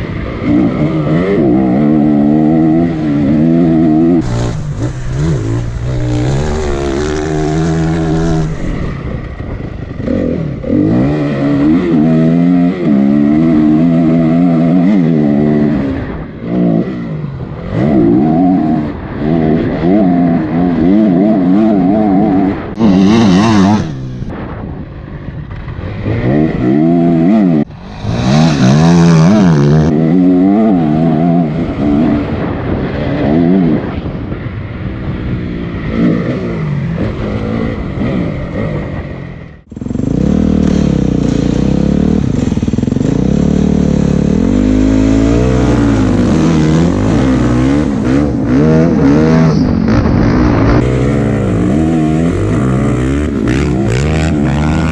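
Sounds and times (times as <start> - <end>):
dirt bike engine revving: 0.0 - 24.5, 25.8 - 34.1, 35.7 - 54.9.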